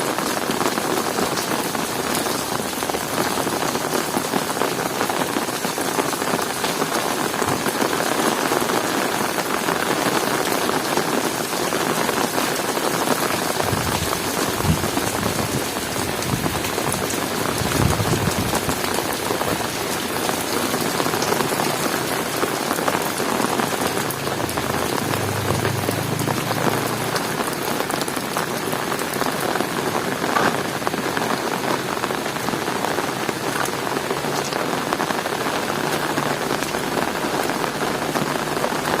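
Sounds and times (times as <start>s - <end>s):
heavy rain on hard surfaces: 0.0s - 39.0s.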